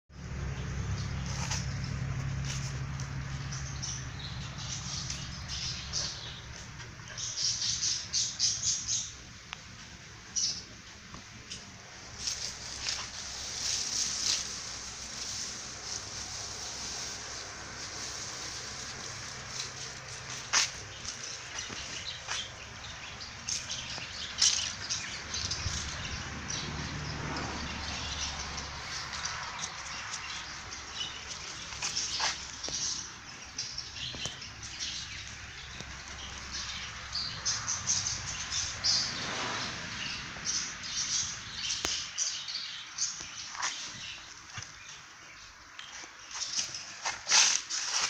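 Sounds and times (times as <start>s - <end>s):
birds chirping: 0.2s - 48.0s.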